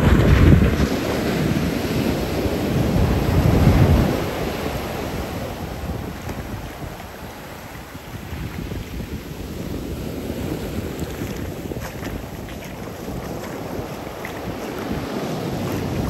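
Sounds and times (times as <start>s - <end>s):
ocean waves breaking: 0.0s - 16.0s
wind buffeting microphone: 0.0s - 16.0s.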